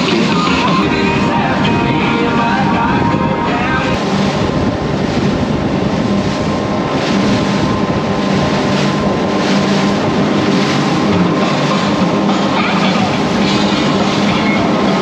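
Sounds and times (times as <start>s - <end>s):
powerboat engines running: 0.0s - 15.0s
water rushing past hull: 0.0s - 15.0s
wind buffeting microphone: 0.0s - 15.0s.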